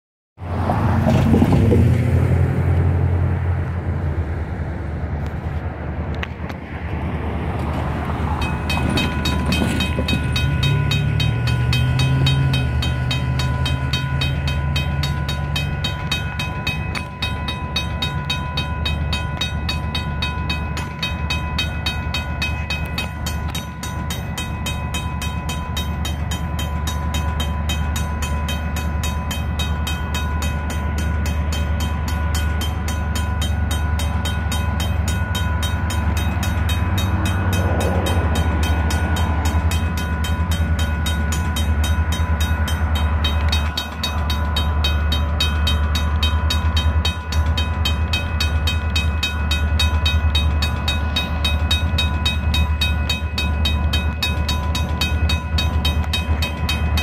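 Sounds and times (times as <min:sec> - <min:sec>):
diesel locomotive engine rumbling: 0:00.4 - 0:57.0
crossing bell ringing: 0:07.8 - 0:57.0.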